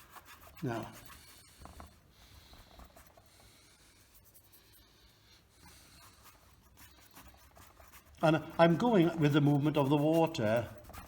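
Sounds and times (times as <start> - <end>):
paintbrush rubbing strokes: 0.0 - 11.0.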